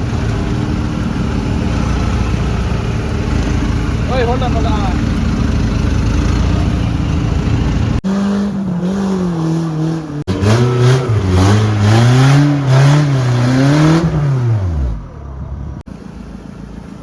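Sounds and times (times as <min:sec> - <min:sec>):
off-road engine revving: 0:00.0 - 0:15.9.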